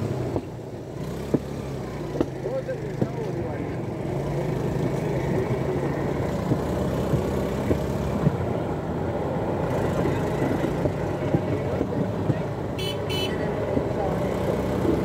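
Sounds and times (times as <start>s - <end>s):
rail trolley engine running: 1.8s - 15.0s.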